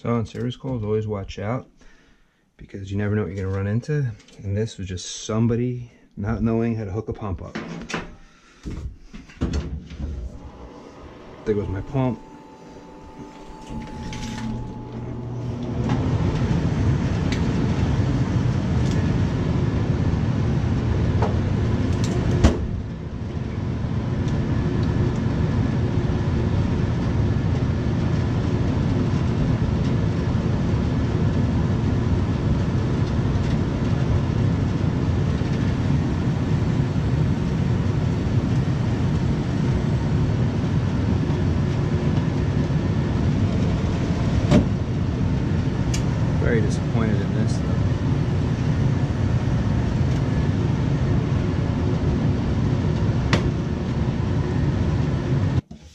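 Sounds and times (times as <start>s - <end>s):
air conditioning rumble: 0.0s - 55.9s.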